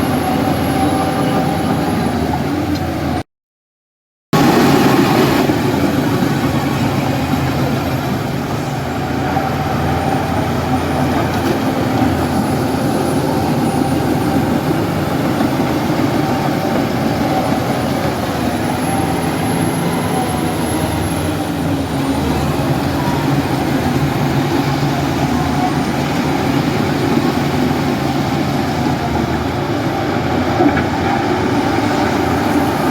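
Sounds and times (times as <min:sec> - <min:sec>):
diesel machinery running under load: 0:00.0 - 0:03.2, 0:04.4 - 0:32.9.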